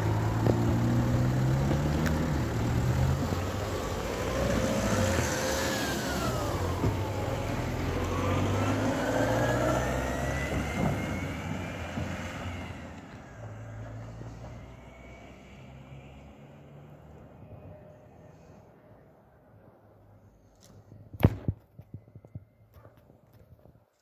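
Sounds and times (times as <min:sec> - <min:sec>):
vehicle engine slowing and accelerating: 0:00.0 - 0:20.2.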